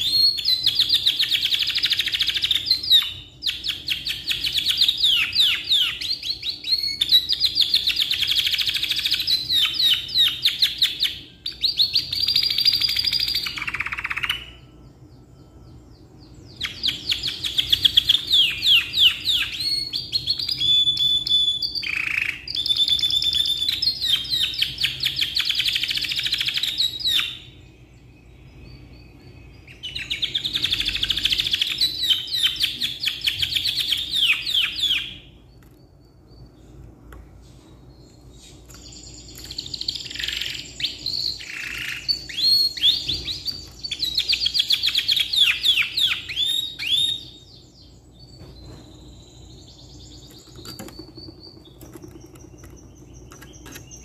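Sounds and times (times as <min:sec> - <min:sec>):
canary singing trills: 0:00.0 - 0:36.8, 0:37.6 - 0:54.0.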